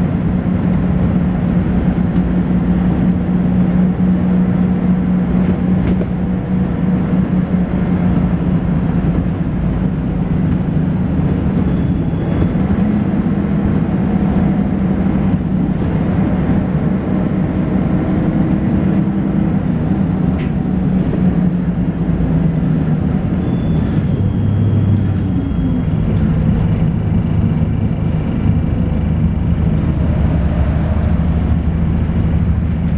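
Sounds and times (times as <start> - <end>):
bus engine droning: 0.0 - 32.9.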